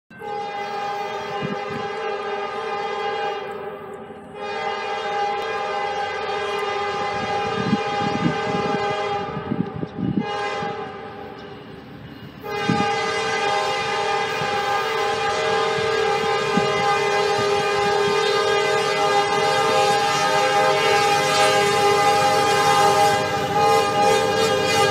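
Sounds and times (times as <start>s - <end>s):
locomotive air horn blasts: 0.1s - 11.3s, 12.4s - 24.9s.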